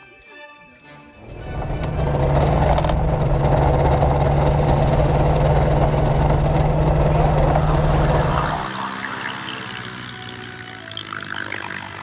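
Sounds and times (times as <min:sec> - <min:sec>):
two-stroke aircraft engine running: 0:01.2 - 0:12.0.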